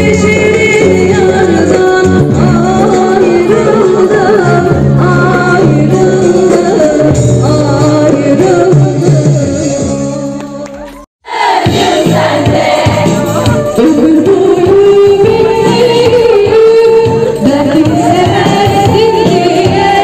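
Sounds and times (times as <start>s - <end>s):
women singing karaoke: 0.0s - 10.6s, 11.3s - 20.0s
backing track music: 0.0s - 20.0s
song with singing: 0.0s - 20.0s.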